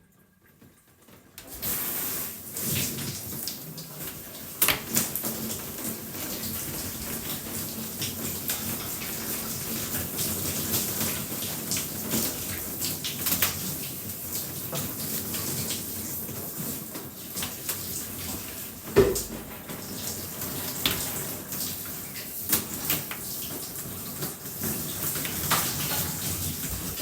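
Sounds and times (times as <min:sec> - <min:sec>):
shower water spraying: 0:01.4 - 0:27.0.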